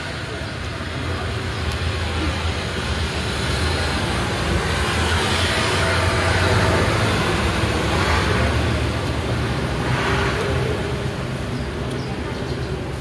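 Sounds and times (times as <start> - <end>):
broad rushing noise: 0.0 - 13.0.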